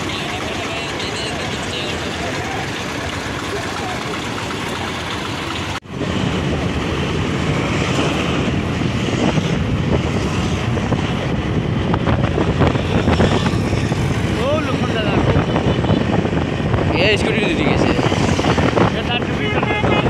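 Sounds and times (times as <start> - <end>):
vehicle engine and road rumble: 0.0 - 20.0
wind buffeting microphone: 0.0 - 20.0.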